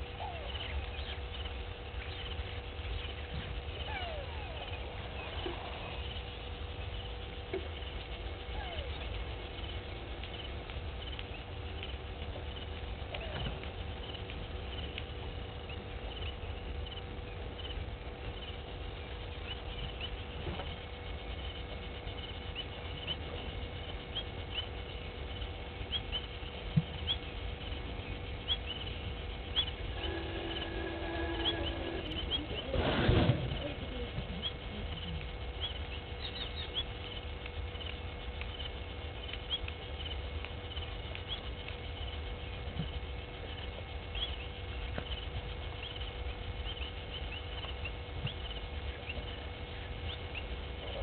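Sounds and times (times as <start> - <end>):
faint hum: 0.0 - 51.0
low rumble: 0.0 - 51.0.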